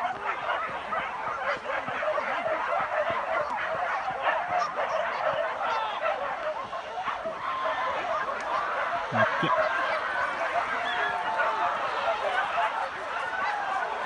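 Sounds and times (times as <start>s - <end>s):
pack of dogs barking: 0.0s - 14.0s.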